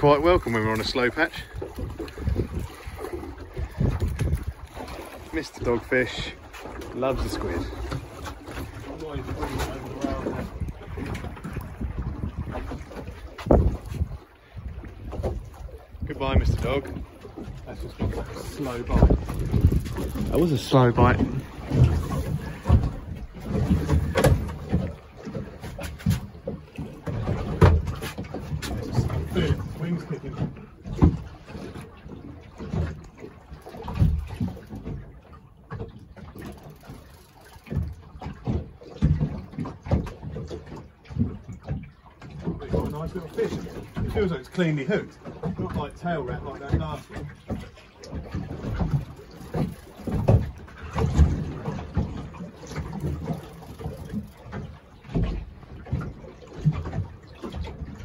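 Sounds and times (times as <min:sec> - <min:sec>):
water slapping against boat hull: 0:00.0 - 0:58.0.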